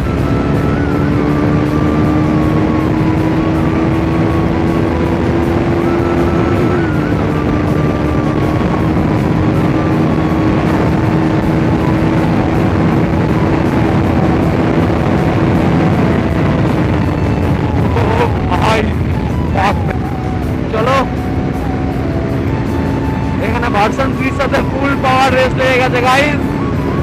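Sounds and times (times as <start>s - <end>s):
loud rushing wind: 0.0s - 27.0s
motorcycle engine at high revs: 0.0s - 27.0s.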